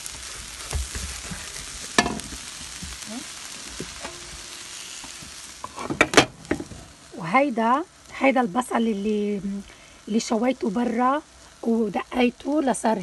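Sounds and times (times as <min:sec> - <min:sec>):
leaves sizzling in a pot: 0:00.0 - 0:13.0.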